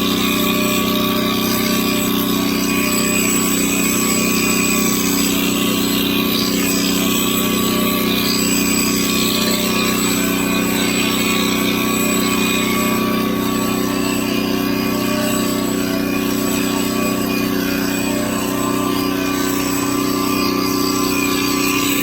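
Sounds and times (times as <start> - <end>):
electric clippers buzzing: 0.0 - 22.0.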